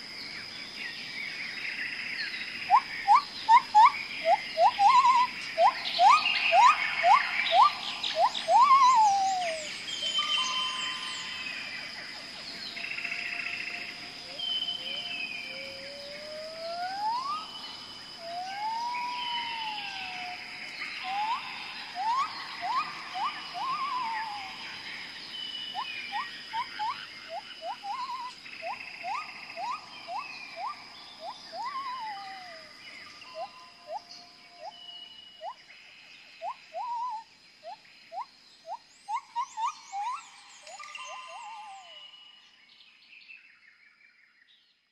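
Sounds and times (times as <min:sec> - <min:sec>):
whistled bird calls: 0:02.6 - 0:12.0, 0:12.6 - 0:35.7, 0:36.4 - 0:43.0.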